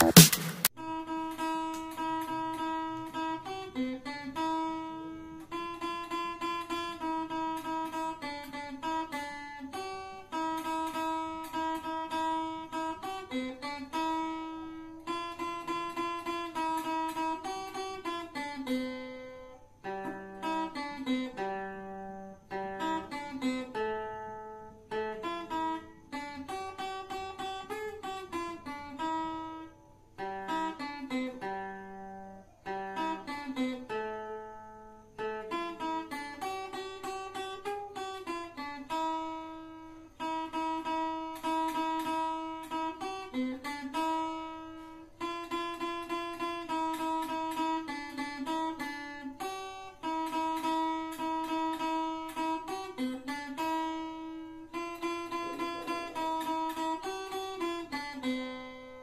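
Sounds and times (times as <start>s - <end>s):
acoustic guitar plucked melody: 0.0s - 59.0s.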